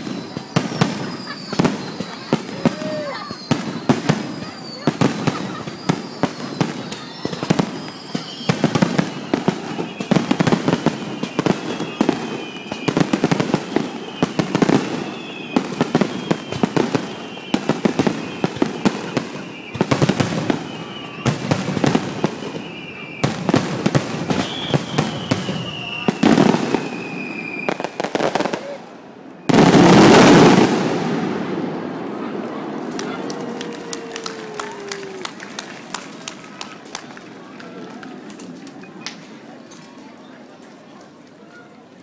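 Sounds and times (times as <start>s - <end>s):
fireworks whistling: 0.0s - 36.6s
fireworks bangs and crackling: 0.0s - 41.3s.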